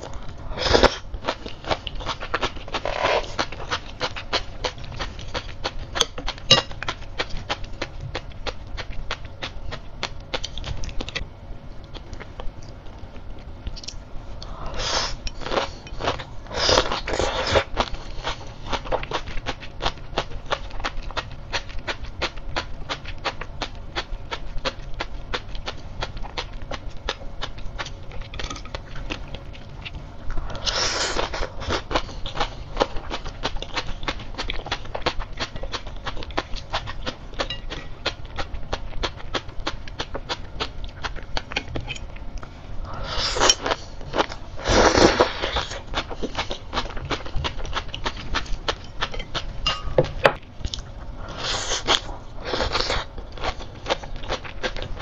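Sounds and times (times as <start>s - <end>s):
chewing crisp sea grapes: 0.0s - 55.0s.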